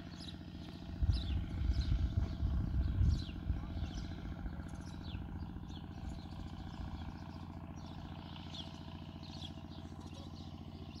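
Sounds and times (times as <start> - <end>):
engine humming: 0.0 - 11.0
small birds chirping: 0.0 - 11.0.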